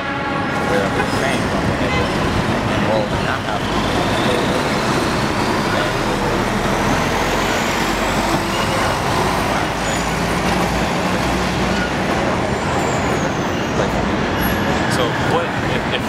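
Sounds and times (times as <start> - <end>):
passing vehicles: 0.0 - 16.0.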